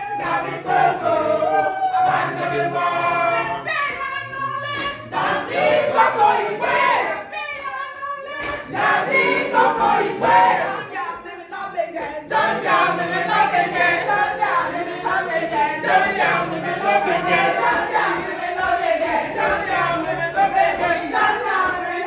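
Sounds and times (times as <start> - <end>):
group singing in chorus: 0.0 - 22.0.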